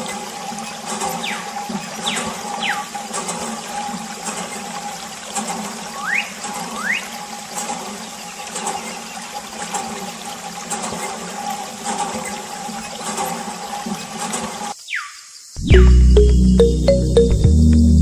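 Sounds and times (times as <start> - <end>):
small pump motor hum: 0.0 - 14.7
water trickling and splashing: 0.0 - 14.8.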